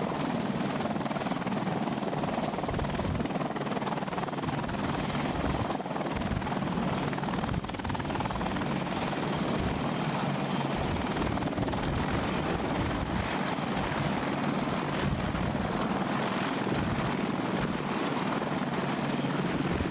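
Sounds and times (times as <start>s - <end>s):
helicopter engines and rotor: 0.0s - 19.9s.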